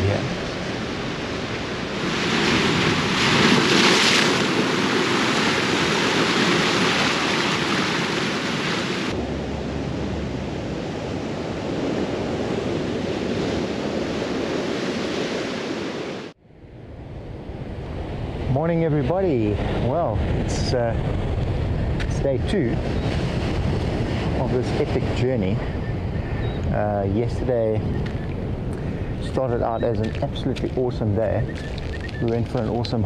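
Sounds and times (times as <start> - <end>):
ocean surf breaking: 0.0 - 16.4, 17.4 - 33.0
wind on microphone: 0.0 - 33.0.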